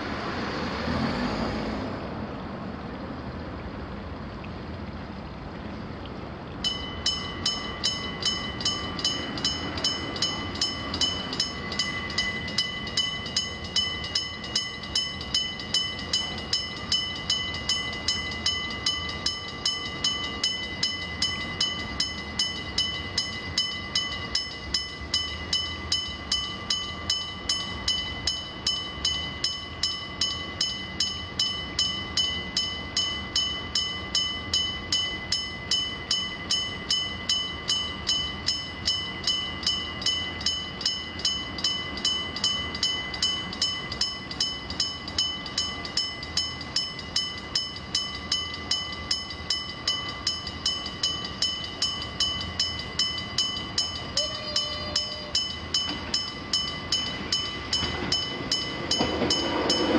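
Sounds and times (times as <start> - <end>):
level crossing bell ringing: 6.6 - 59.9.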